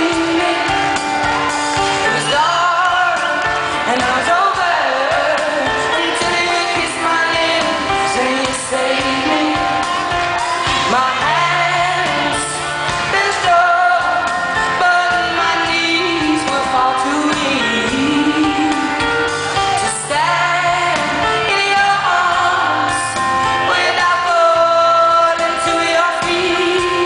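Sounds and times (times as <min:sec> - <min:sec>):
live band playing: 0:00.0 - 0:27.0
woman singing a ballad: 0:00.0 - 0:27.0.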